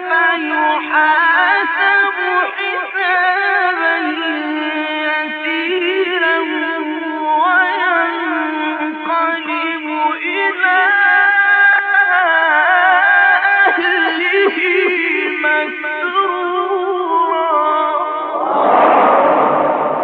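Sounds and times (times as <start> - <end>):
man chanting melodically: 0.0 - 18.4.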